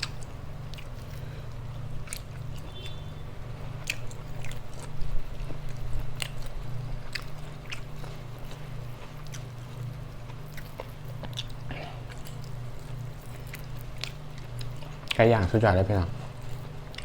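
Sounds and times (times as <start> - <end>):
chewing and biting food: 0.0 - 17.0.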